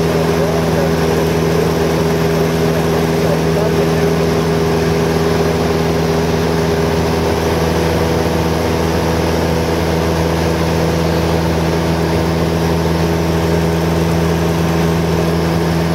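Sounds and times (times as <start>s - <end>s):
propeller plane engine droning: 0.0s - 15.9s
rushing airflow: 0.0s - 15.9s.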